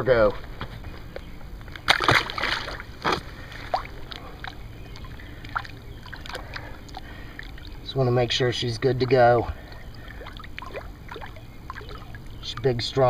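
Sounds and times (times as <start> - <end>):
water dripping: 1.7 - 8.3, 8.9 - 13.0
water splashing: 1.7 - 13.0.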